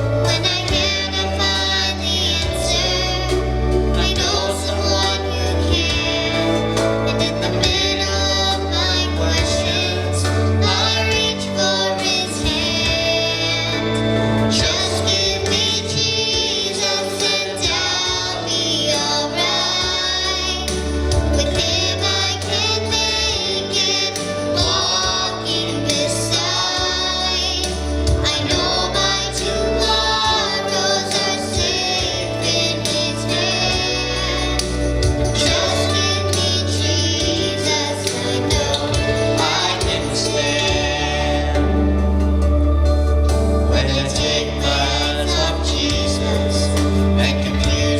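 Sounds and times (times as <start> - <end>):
instrumental accompaniment: 0.0 - 47.9
man and woman singing gospel: 0.0 - 47.9.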